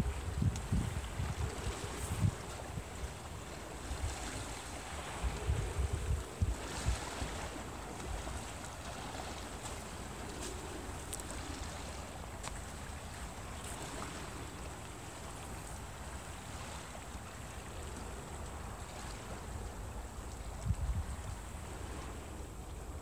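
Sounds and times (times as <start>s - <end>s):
faint water splashes: 0.0s - 23.0s
low rumble of wind: 0.0s - 23.0s.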